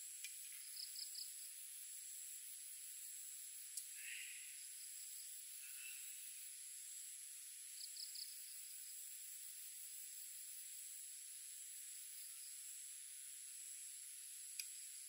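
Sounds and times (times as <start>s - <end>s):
hiss: 0.0s - 15.0s
insects chirring: 0.0s - 15.0s.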